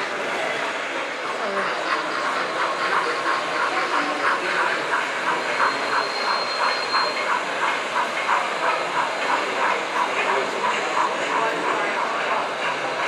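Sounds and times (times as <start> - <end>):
hiss: 0.0 - 13.0
model train rhythmic beat: 0.0 - 13.0.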